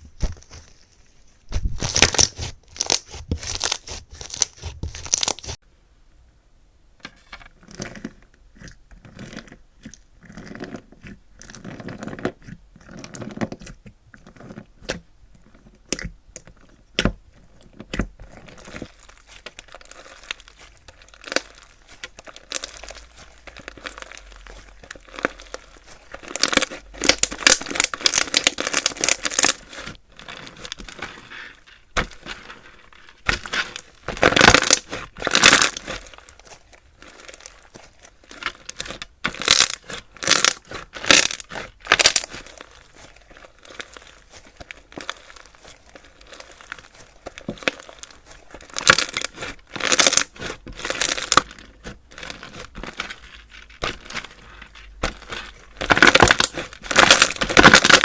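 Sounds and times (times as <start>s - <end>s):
slime crackling and tearing: 0.2s - 5.6s, 7.6s - 58.0s.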